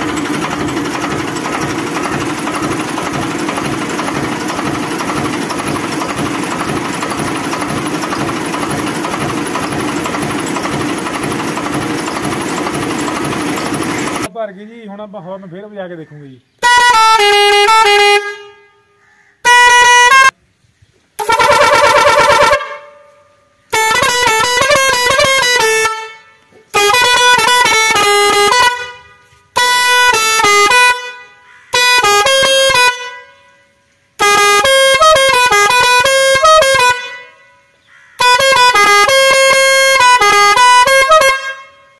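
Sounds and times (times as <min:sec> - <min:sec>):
musical air horn blasts: 0:00.0 - 0:14.3, 0:16.6 - 0:20.4, 0:21.2 - 0:41.9.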